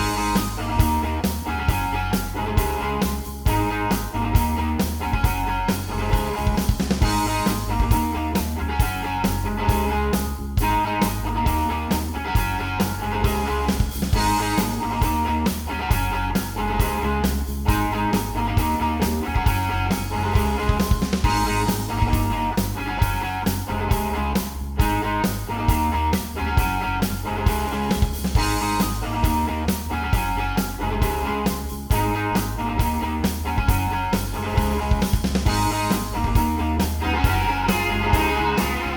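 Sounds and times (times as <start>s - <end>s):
rock music with guitar and drums: 0.0s - 38.9s.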